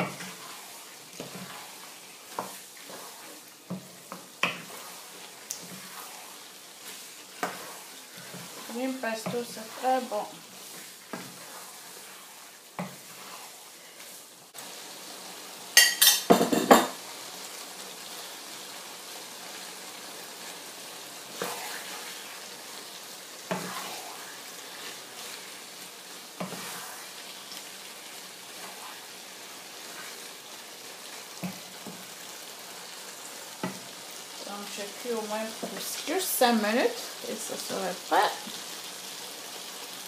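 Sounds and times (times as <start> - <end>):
food sizzling in a frying pan: 0.0 - 40.0.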